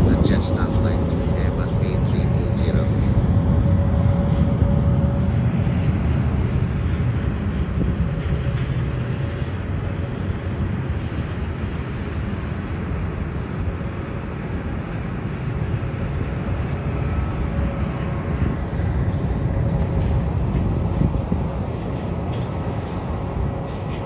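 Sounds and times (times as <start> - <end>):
faint jet engine whine: 0.0 - 24.0
jet engines rumbling: 0.0 - 24.0.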